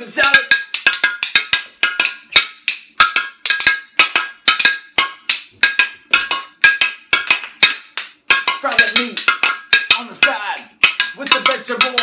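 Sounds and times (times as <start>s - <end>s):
glass bottle tapped by hand: 0.2s - 12.0s.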